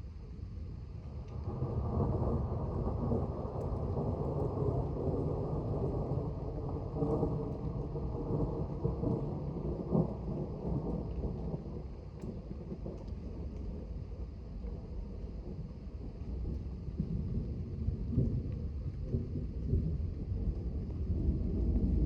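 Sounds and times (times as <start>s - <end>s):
rolling thunder: 1.4s - 22.0s.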